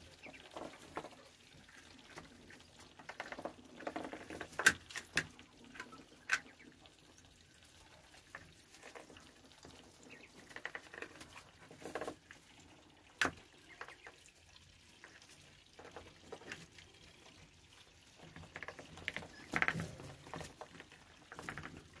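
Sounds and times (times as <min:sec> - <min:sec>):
ducklings nibbling wet greens: 0:00.0 - 0:22.0.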